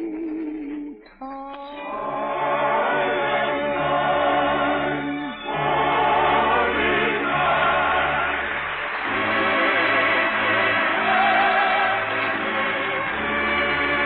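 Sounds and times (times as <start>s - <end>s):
choir singing with accompaniment: 1.9s - 14.0s.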